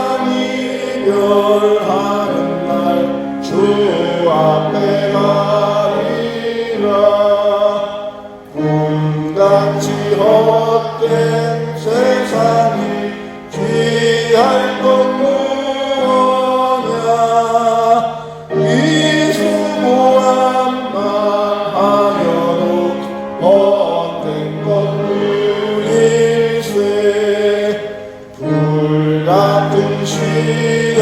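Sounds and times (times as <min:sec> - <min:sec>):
congregation singing a hymn: 0:00.0 - 0:31.0.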